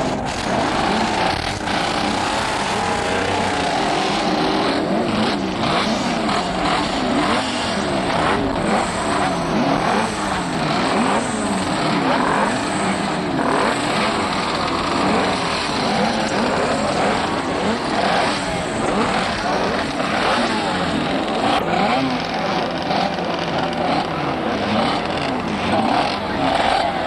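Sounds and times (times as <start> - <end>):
racing motorcycle engines revving: 0.0 - 27.0.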